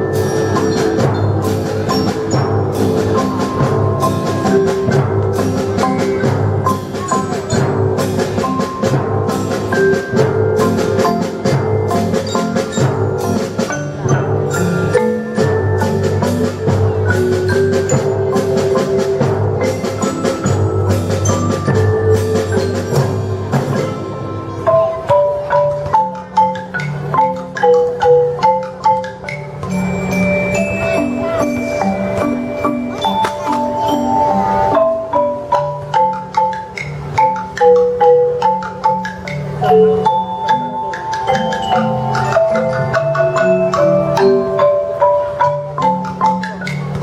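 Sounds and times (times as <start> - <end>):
drum strokes: 0.0 - 47.0
marimba and xylophone: 0.0 - 47.0
wood block strokes: 0.0 - 47.0.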